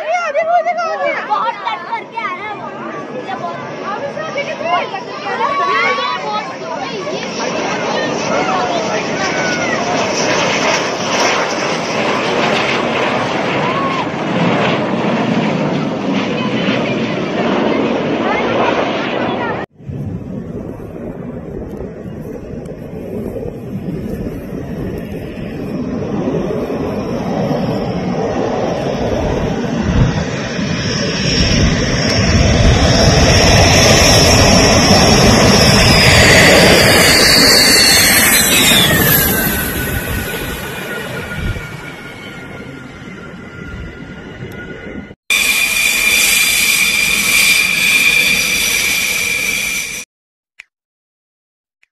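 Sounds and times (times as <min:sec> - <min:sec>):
fighter jet flying low: 0:00.6 - 0:50.1.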